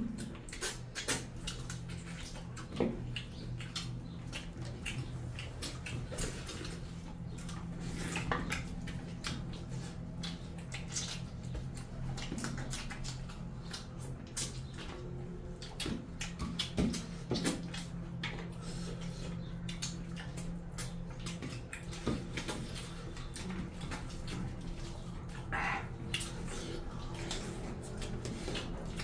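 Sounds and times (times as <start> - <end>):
fingers squishing food on plates: 0.0 - 29.0
wet chewing and smacking: 0.0 - 29.0.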